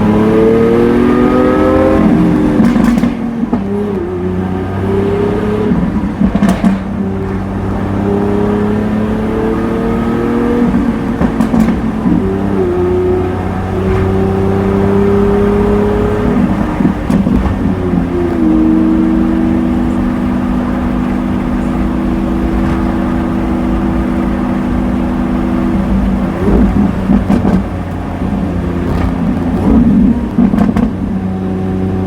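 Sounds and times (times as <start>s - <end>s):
exhaust crackles: 0.0s - 32.0s
sports car engine accelerating: 0.0s - 32.0s.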